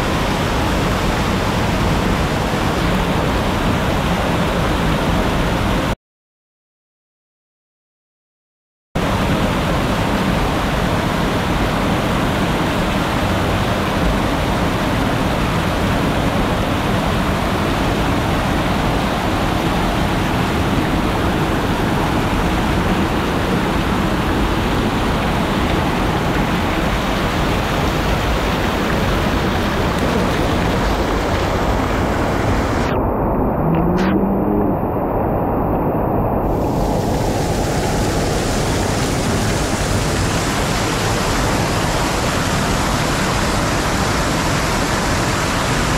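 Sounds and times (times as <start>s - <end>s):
waterfall rushing: 0.0s - 5.0s, 9.0s - 45.9s.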